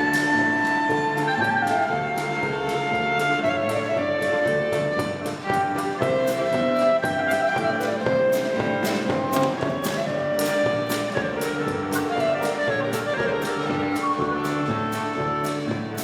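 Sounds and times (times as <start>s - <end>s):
acoustic bass: 0.0s - 16.0s
clarinet: 0.0s - 16.0s
lively folk dance ensemble: 0.0s - 16.0s
percussion: 0.0s - 16.0s
piano: 0.0s - 16.0s
violin: 0.0s - 16.0s.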